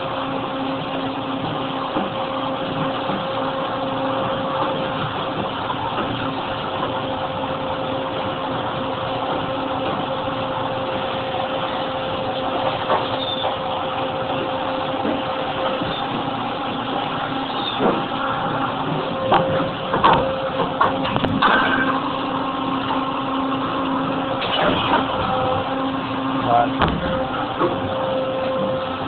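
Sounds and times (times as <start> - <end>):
injection molding machine drone: 0.0 - 29.0.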